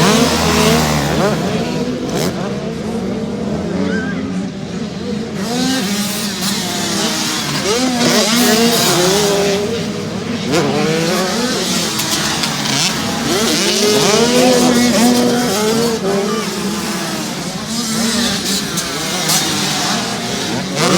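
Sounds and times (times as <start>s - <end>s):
motocross bike engines revving: 0.0s - 20.9s.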